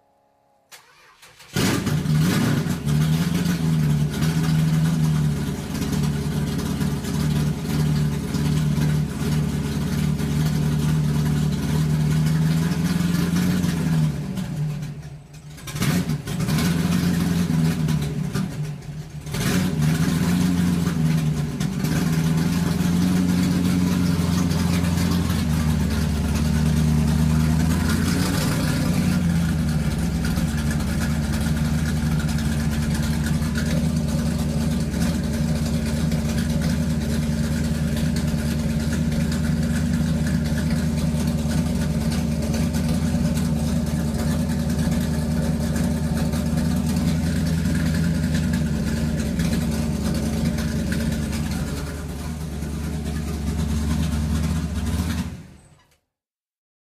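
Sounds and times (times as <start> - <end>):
motorcycle engine revving and idling: 1.4 - 55.8.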